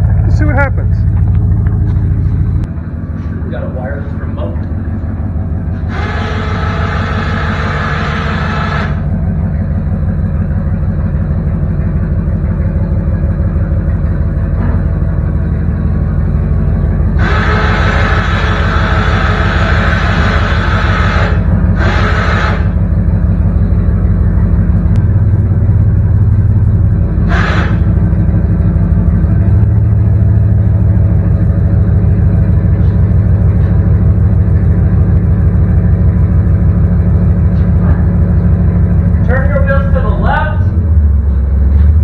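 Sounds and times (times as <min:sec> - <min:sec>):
electric winch whirring: 0:00.0 - 0:41.8
truck engine running: 0:00.0 - 0:42.0.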